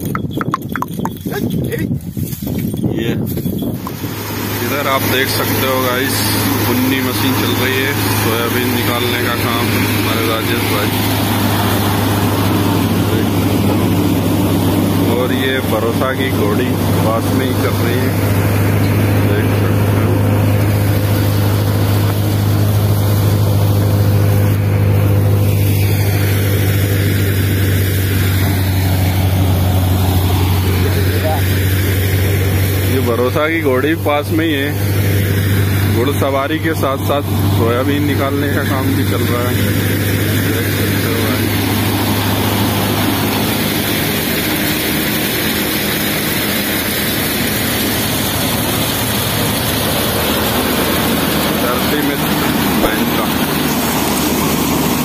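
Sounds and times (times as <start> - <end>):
low engine hum: 0.0 - 55.0
threshing machine droning: 0.0 - 55.0.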